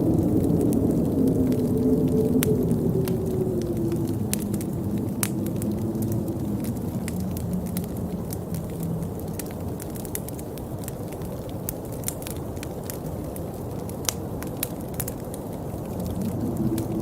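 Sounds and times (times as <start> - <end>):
raindrops ticking close by: 0.0 - 17.0
steady rain: 0.0 - 17.0.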